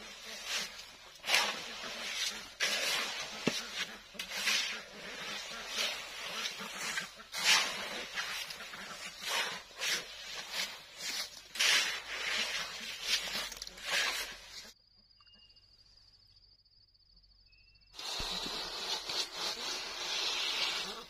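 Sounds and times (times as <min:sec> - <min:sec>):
shovels scraping wet concrete: 0:00.0 - 0:14.7, 0:18.0 - 0:21.0
float scraping concrete: 0:00.0 - 0:14.8, 0:18.0 - 0:21.0.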